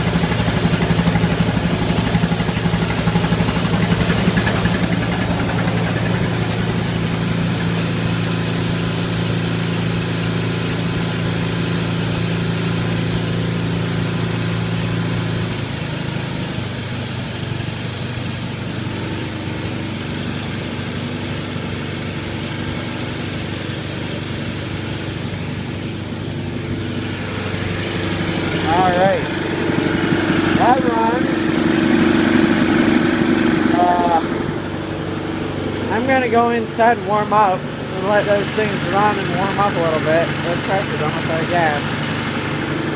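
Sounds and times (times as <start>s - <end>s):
small gasoline engine idling: 0.0s - 42.9s.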